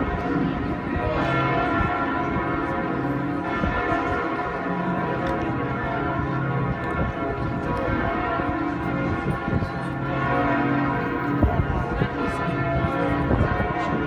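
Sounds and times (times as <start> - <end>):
church bells pealing: 0.0 - 14.0.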